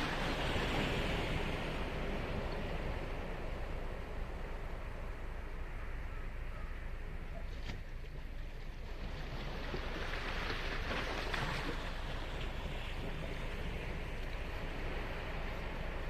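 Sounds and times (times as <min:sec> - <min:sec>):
ocean surf washing on beach: 0:00.0 - 0:16.0.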